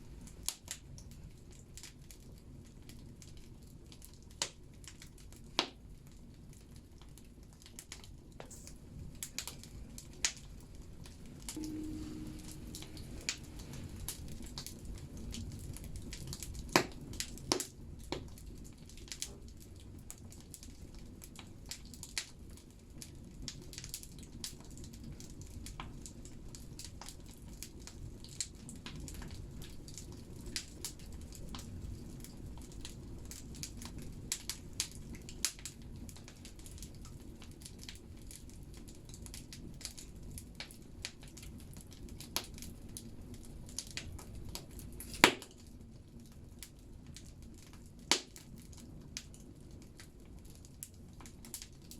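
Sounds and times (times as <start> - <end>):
low rumble of fire: 0.0 - 51.9
firewood crackling and popping: 0.1 - 51.9.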